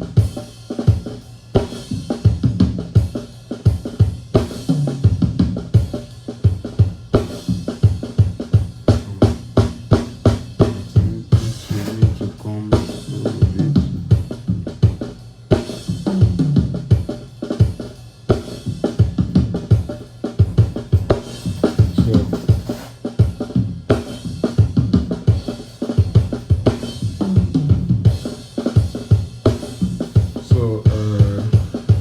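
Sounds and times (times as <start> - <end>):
drum kit groove: 0.0 - 32.0.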